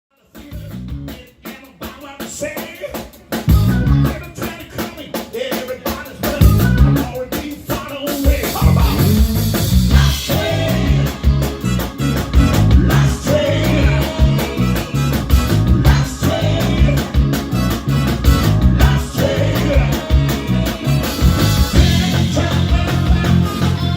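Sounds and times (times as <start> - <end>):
blues band playing live: 0.3 - 23.9.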